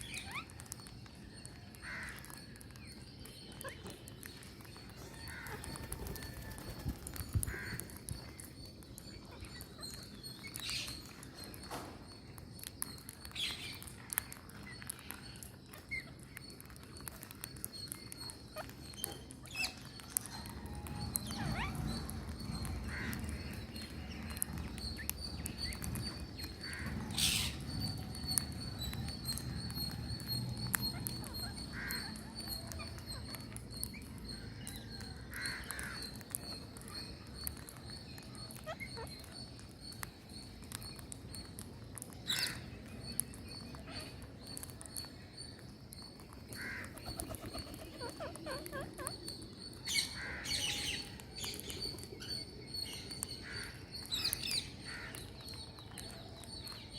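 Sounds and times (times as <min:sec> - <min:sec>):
birds chirping and calling: 0:00.0 - 0:56.9.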